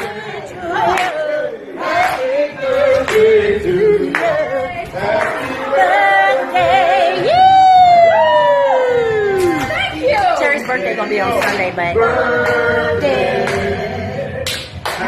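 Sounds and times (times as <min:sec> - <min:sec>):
voices singing without instruments: 0:00.0 - 0:15.0.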